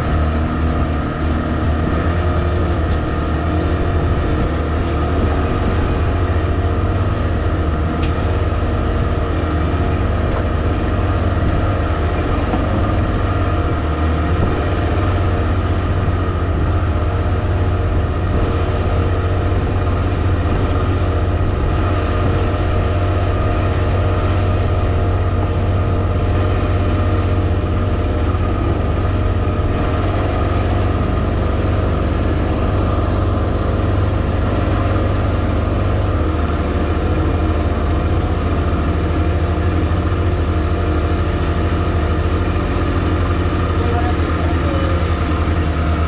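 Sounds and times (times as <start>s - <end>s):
outboard motor running: 0.0s - 46.0s
water rushing along hull: 0.0s - 46.0s.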